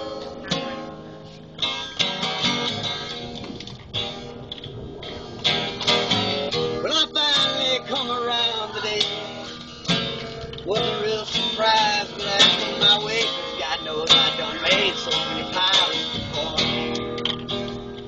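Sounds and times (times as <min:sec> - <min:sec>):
acoustic blues guitar: 0:00.0 - 0:18.0.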